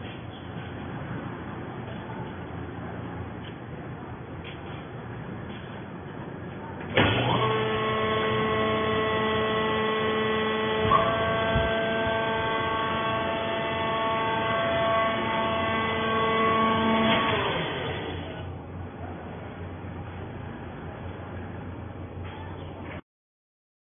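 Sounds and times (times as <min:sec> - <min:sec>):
hydraulic power unit humming: 0:00.0 - 0:23.0.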